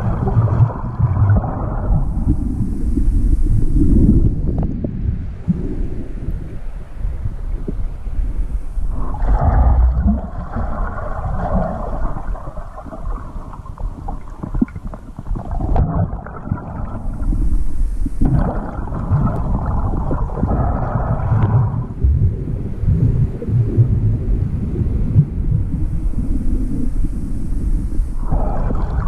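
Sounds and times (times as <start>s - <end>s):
underwater rumble and gurgling: 0.0s - 29.0s.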